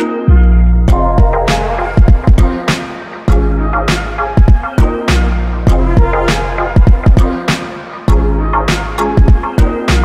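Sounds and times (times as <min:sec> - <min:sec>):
music with hard drum beat: 0:00.9 - 0:10.0.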